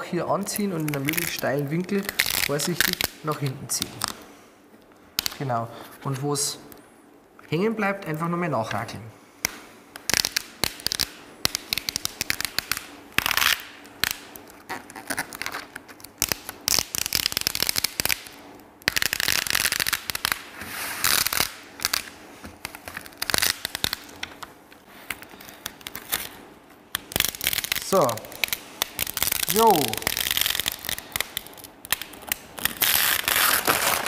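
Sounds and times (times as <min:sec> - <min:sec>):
tape peeling with crackling: 0:00.0 - 0:07.5, 0:09.4 - 0:34.0
tape ripping: 0:00.4 - 0:04.2, 0:05.1 - 0:05.6, 0:09.4 - 0:34.0.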